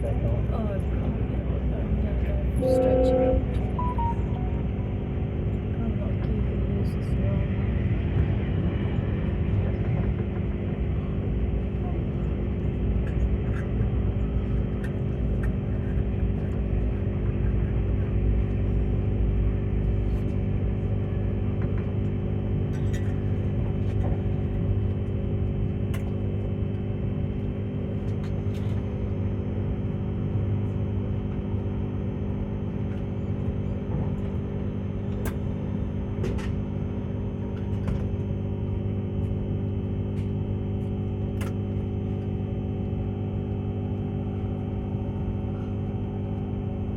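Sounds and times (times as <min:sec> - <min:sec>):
train carriage hum and rumble: 0:00.0 - 0:46.9.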